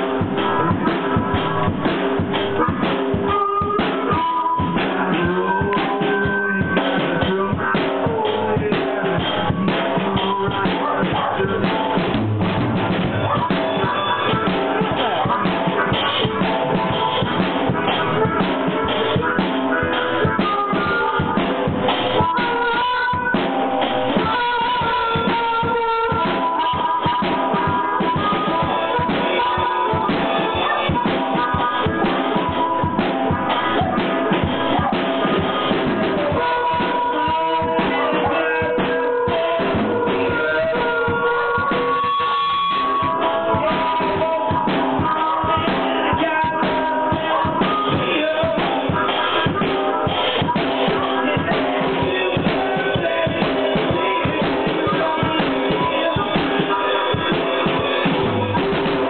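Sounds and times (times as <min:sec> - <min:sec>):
drum kit beat: 0:00.0 - 0:59.0
harmonica sustained notes: 0:00.0 - 0:59.0.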